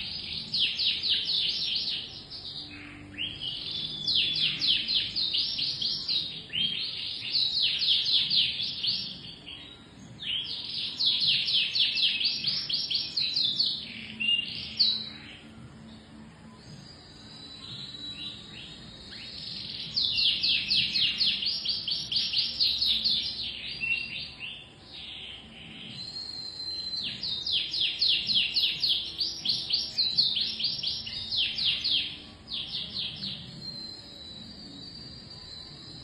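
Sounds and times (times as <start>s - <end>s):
canary singing: 0.0s - 36.0s.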